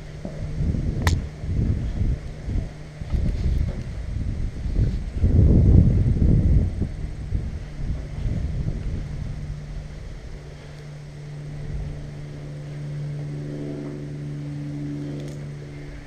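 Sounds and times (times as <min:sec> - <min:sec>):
motor hum: 0:00.0 - 0:16.0.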